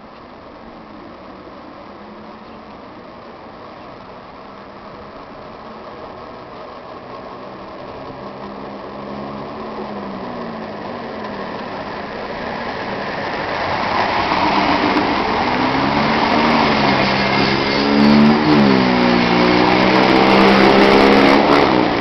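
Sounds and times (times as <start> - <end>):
electric train arriving: 0.0 - 22.0
train motor whine: 4.0 - 22.0.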